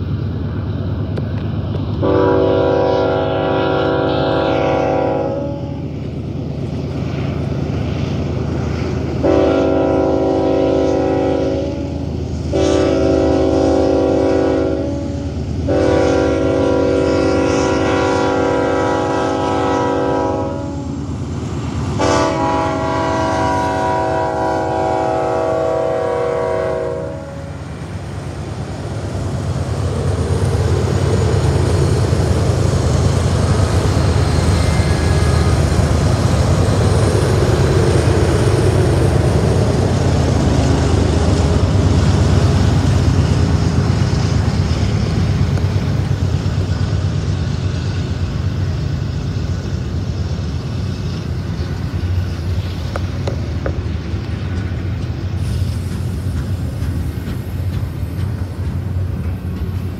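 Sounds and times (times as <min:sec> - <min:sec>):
diesel locomotive rumble: 0:00.0 - 0:59.9.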